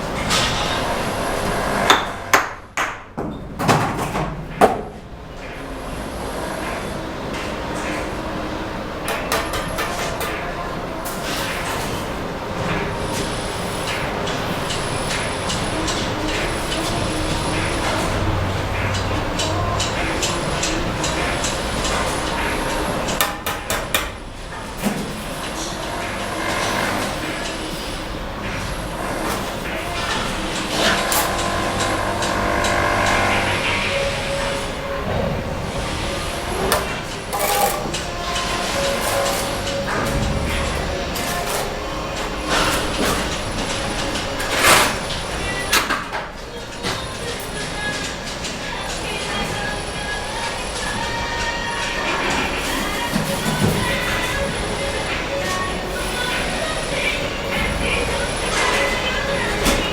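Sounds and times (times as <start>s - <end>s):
construction site noise: 0.0s - 59.9s.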